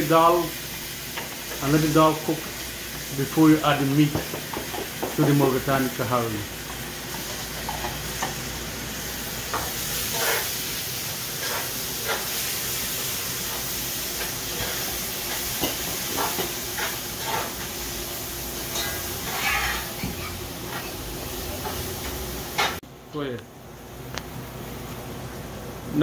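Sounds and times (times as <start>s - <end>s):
peas sizzling in hot oil: 0.0s - 22.8s.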